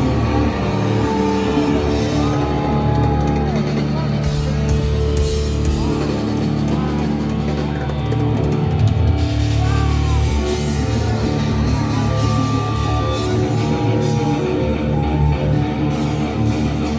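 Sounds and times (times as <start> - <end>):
distorted electric guitar: 0.0 - 16.9
drum kit: 0.0 - 16.9
electric bass: 0.0 - 16.9
live hard rock band: 0.0 - 16.9.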